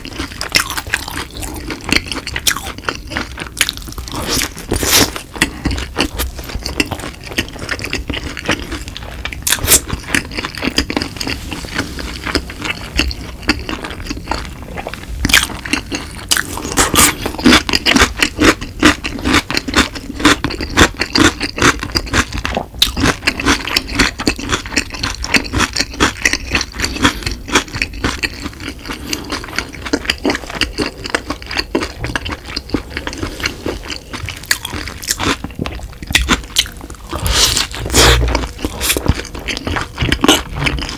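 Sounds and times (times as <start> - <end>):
chewing crispy fried food: 0.0 - 40.9.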